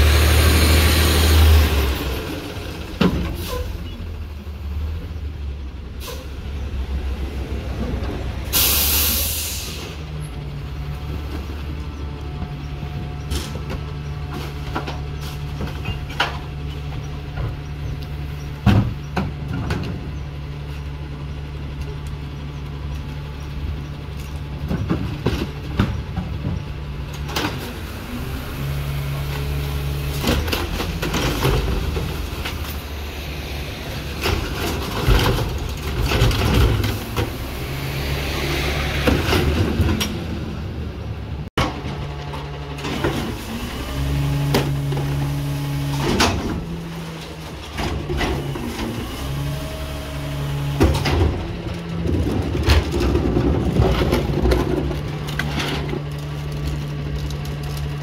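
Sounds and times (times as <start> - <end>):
trash carts knocking and banging: 0.0 - 4.3, 9.9 - 58.0.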